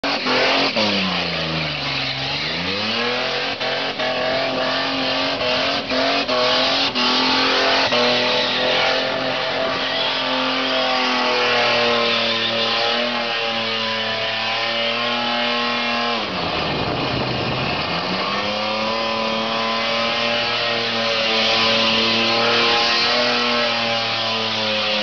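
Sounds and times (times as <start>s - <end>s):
car engine at high revs: 0.0s - 25.0s.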